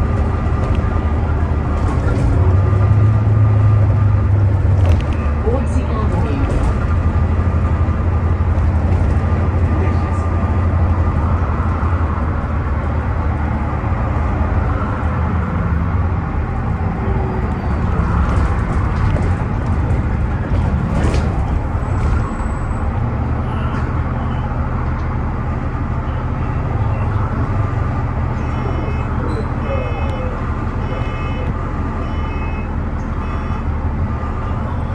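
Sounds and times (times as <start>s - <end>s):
bus engine drone: 0.0s - 34.9s
road noise: 0.0s - 34.9s.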